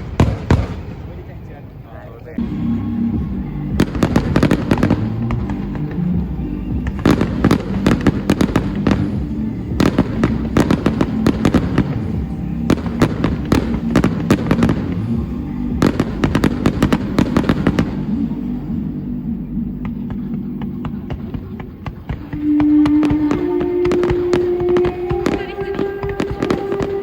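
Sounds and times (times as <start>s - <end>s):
fireworks bangs: 0.0s - 27.0s
music: 0.0s - 27.0s.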